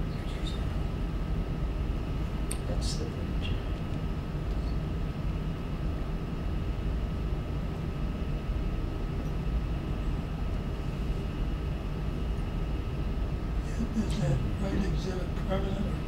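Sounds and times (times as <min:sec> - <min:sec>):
faint high whine: 0:00.0 - 0:16.0
low room rumble: 0:00.0 - 0:16.0.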